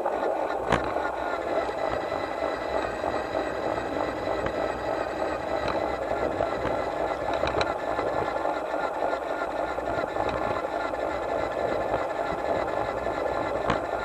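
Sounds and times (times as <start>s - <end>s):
model train wheels rattling on rails: 0.0s - 14.0s
faint clicks: 0.4s - 14.0s.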